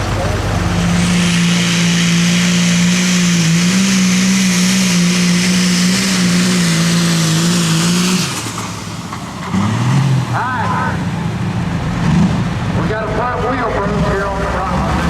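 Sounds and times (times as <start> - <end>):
engine revving at full throttle: 0.0 - 15.0.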